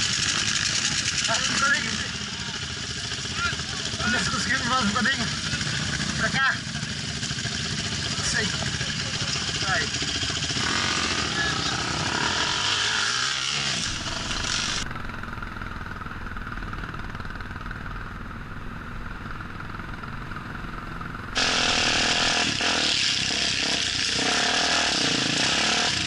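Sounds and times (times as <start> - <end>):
off-road motorcycle engine running: 0.0 - 26.0.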